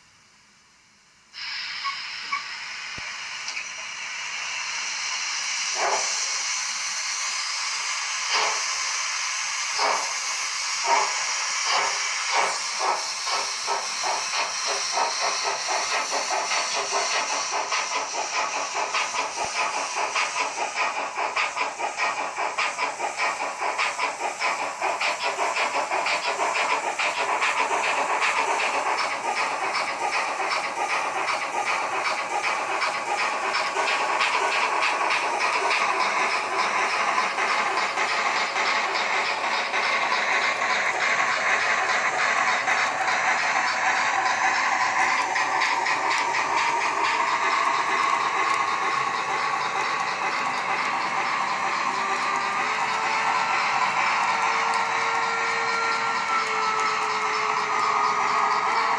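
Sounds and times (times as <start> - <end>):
steam hiss: 1.0 - 58.9
steam exhaust puff: 1.3 - 58.9.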